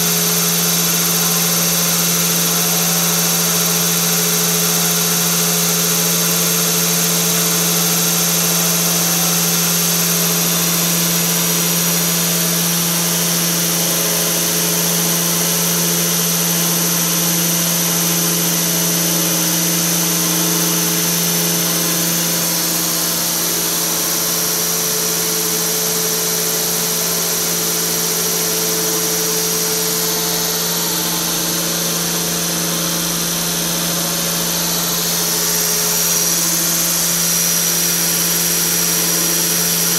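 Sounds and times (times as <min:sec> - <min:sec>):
grinding machine hum: 0:00.0 - 0:39.9
high-pitched whine: 0:00.0 - 0:39.9.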